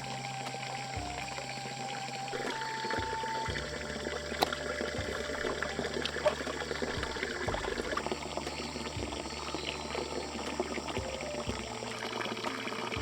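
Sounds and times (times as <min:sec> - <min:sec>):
running water: 0:00.0 - 0:13.0
small crackling ticks: 0:00.0 - 0:13.0.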